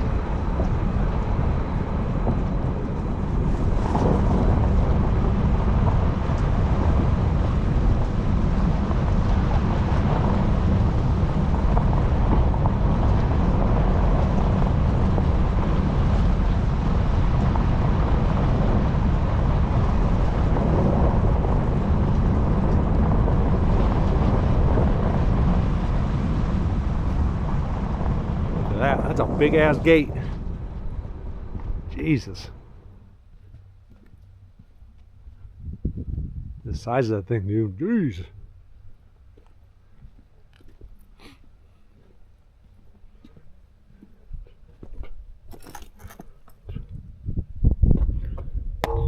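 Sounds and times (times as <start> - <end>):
car driving rumble: 0.0 - 47.0
road and wind noise: 0.0 - 49.0.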